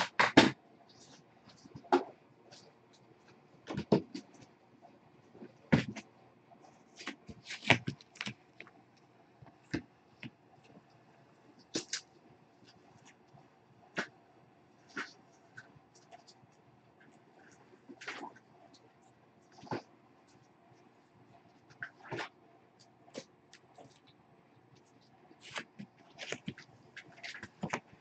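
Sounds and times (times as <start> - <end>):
kittens eating from bowls: 0.0 - 28.0.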